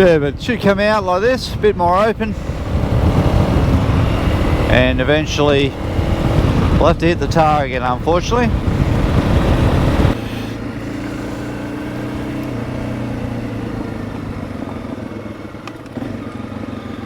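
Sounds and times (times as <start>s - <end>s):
motorcycle engine running: 2.0s - 17.0s.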